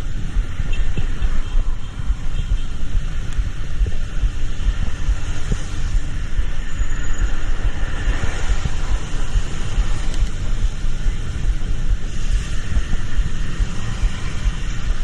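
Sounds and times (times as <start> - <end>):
engine and tyre rumble: 0.0 - 15.0
wind buffeting microphone: 0.0 - 15.0.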